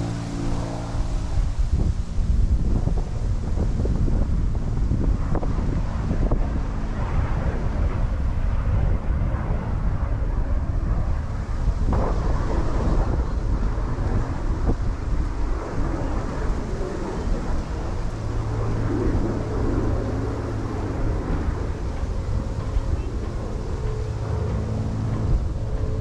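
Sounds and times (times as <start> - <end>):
low steady hum: 0.0 - 26.0
wind buffeting microphone: 0.0 - 26.0.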